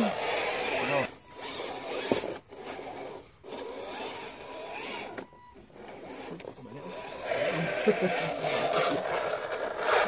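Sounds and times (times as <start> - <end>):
electric motor and gearbox whining: 0.0 - 10.0.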